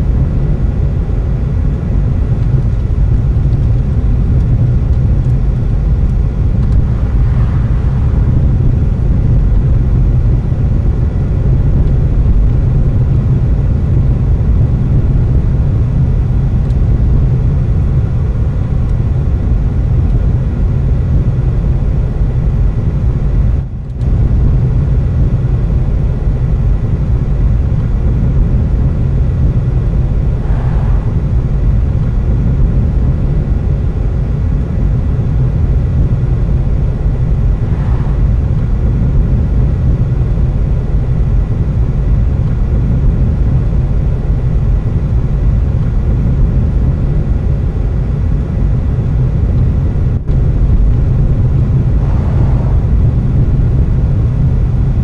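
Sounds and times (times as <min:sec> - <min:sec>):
car cabin engine and tyre rumble: 0:00.0 - 0:55.0.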